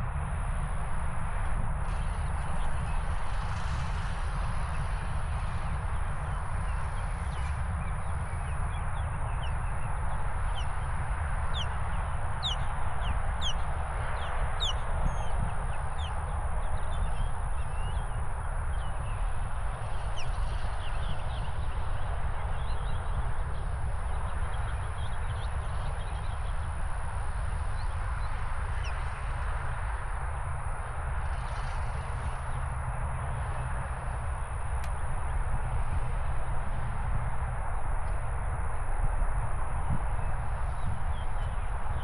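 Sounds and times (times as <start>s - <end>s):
steady rushing noise: 0.0s - 42.0s
wind rumbling on microphone: 0.0s - 42.0s.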